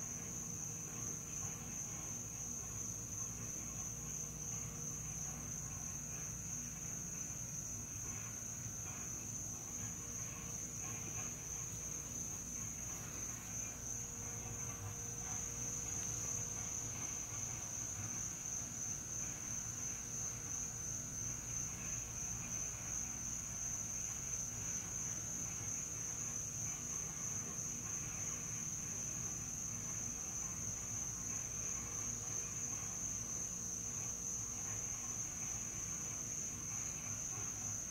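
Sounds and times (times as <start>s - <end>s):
night insects trilling: 0.0s - 37.9s.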